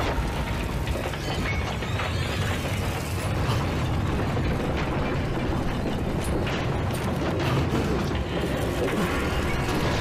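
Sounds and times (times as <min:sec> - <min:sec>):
grinding mechanical rumbling: 0:00.0 - 0:10.0.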